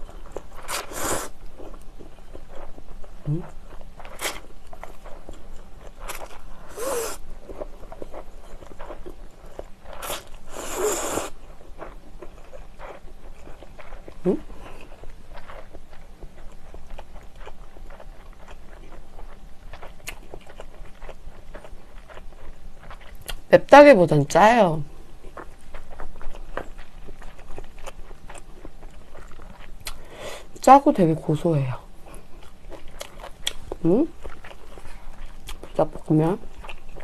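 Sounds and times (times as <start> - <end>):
wet chewing with mouth clicks: 0.0 - 23.5, 25.2 - 30.6, 32.0 - 37.0.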